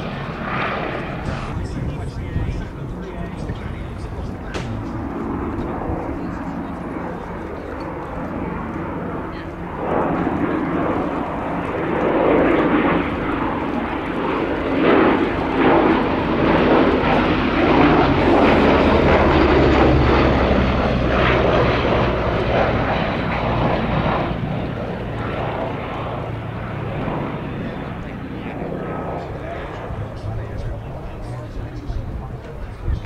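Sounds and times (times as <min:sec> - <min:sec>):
propeller planes droning past: 0:00.0 - 0:33.0.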